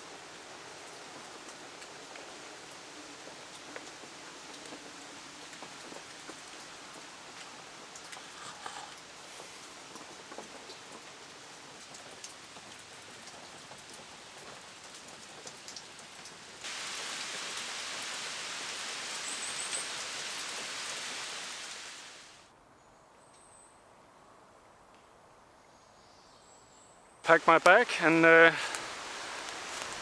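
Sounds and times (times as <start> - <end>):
rain falling: 0.0 - 22.5, 27.3 - 30.0.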